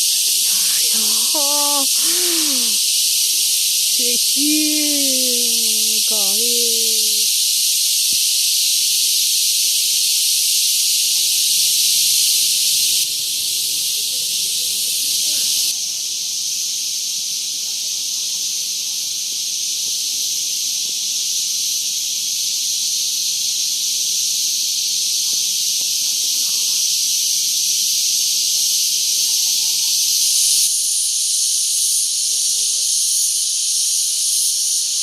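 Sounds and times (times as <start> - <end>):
shrilling insects chorus: 0.0 - 19.0, 21.0 - 35.0.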